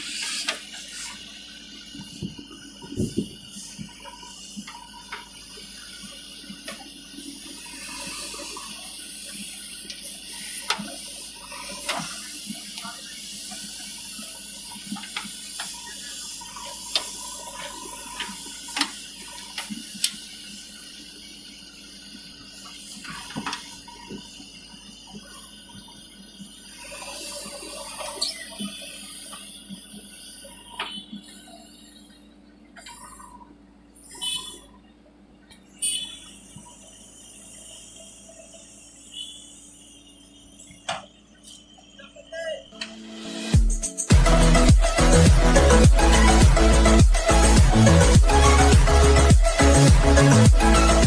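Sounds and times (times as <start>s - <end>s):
digger engine and hydraulics: 0.0s - 51.0s.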